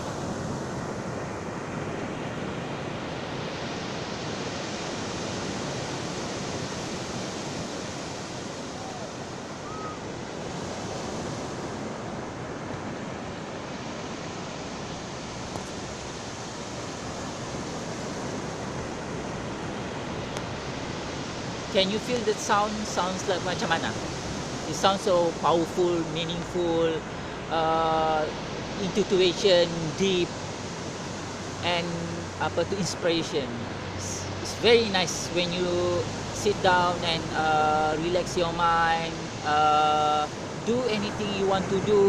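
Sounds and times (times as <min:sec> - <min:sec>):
sea waves breaking on shore: 0:00.0 - 0:42.0.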